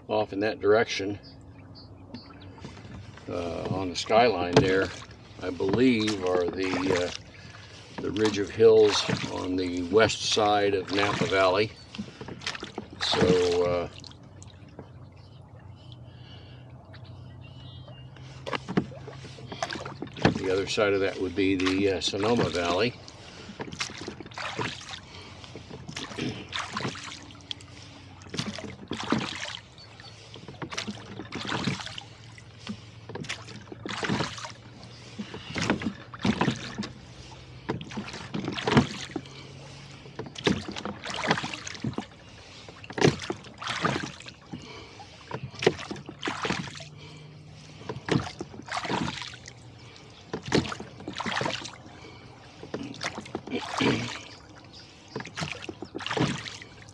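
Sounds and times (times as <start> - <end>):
oars knocking and splashing: 0.0 - 56.9.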